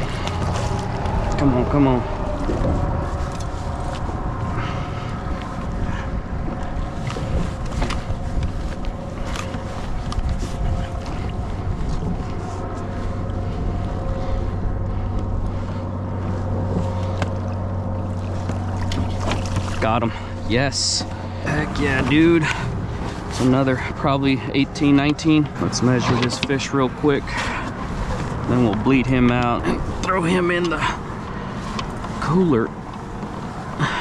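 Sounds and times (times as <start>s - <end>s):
water lapping against kayak: 0.0s - 34.0s
wind buffeting microphone: 0.0s - 34.0s.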